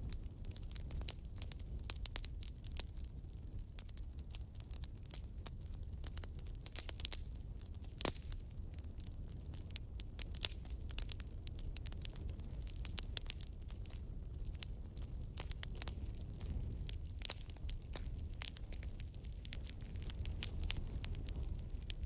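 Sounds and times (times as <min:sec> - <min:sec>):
logs crackling in a fireplace: 0:00.0 - 0:22.0
low steady fire rumble: 0:00.0 - 0:22.0.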